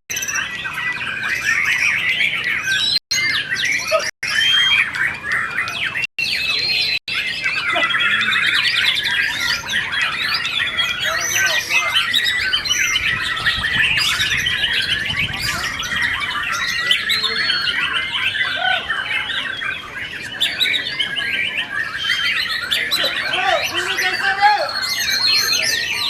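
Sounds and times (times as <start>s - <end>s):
birds singing whistled phrases: 0.1s - 26.0s.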